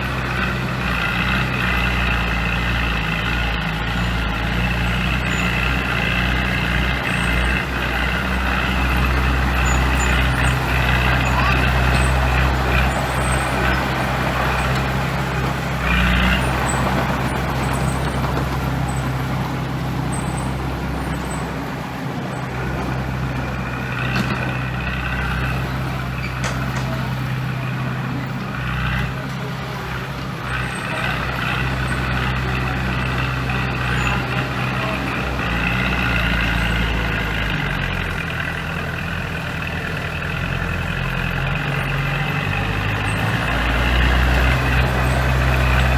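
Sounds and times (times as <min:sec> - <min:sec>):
diesel earthmoving machinery: 0:00.0 - 0:45.9.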